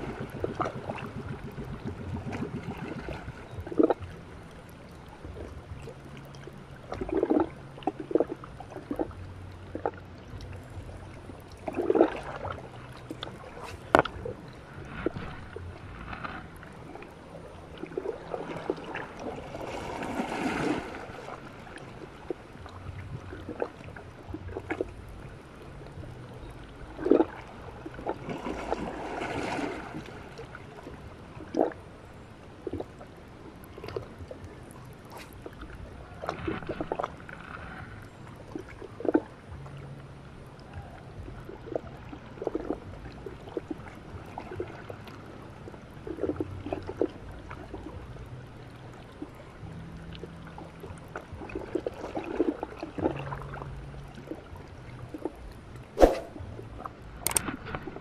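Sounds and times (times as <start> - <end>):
sea water lapping among rocks: 0.0 - 39.6, 49.0 - 58.0
water splashes: 0.0 - 58.0.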